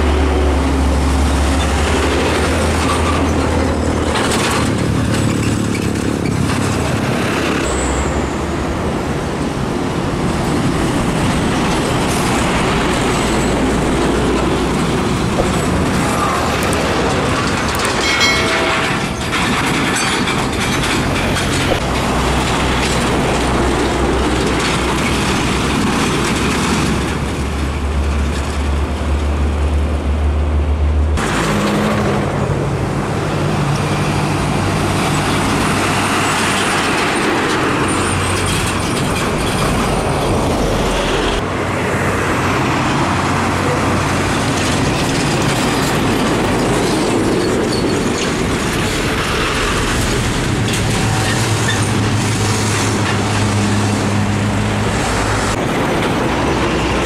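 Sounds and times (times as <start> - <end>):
diesel trucks driving past: 0.0 - 57.0
tyre and road noise: 0.0 - 57.0.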